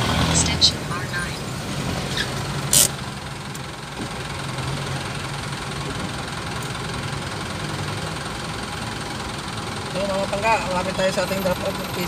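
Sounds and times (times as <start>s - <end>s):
car engine idling: 0.0s - 12.0s
street traffic: 0.0s - 12.0s.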